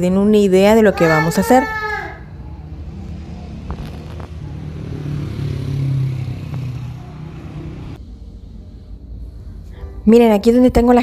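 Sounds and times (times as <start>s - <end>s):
vehicle engine passing: 1.0s - 10.1s.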